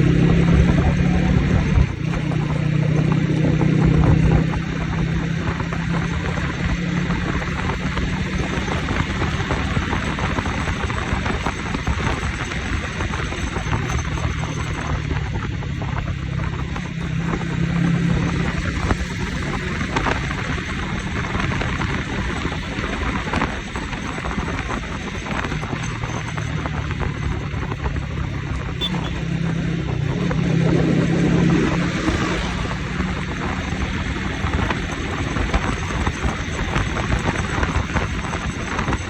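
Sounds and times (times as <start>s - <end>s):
motorcycle engine running: 0.0s - 39.0s
wind noise on microphone: 0.0s - 39.0s.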